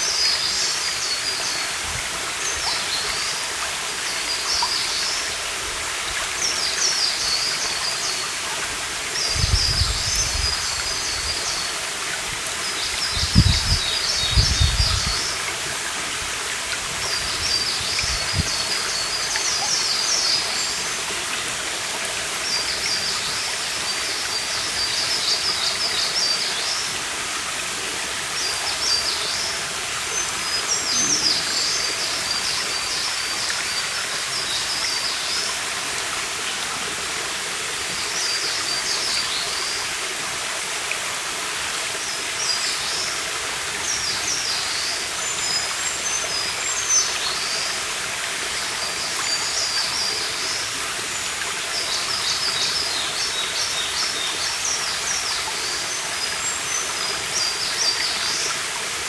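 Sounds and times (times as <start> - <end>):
stream rushing water: 0.0 - 59.0.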